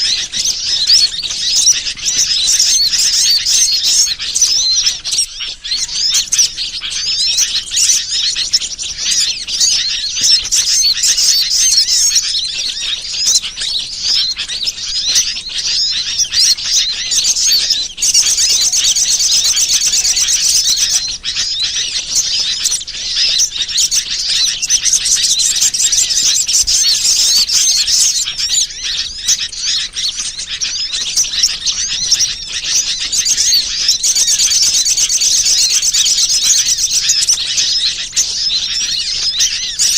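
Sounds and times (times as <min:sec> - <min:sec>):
bird chirps and calls: 0:00.0 - 0:39.9
fast bird trills: 0:00.0 - 0:39.9.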